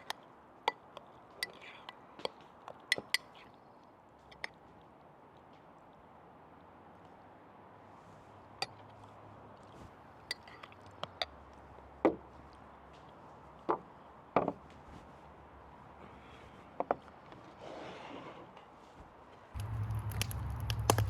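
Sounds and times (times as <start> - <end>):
faint steady background noise: 0.0 - 21.0.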